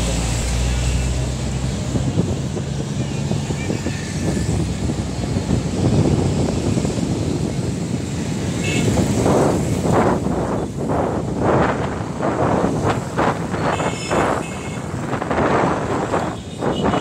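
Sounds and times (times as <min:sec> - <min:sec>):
vehicle engines rumbling: 0:00.0 - 0:17.0
wind buffeting microphone: 0:00.0 - 0:17.0.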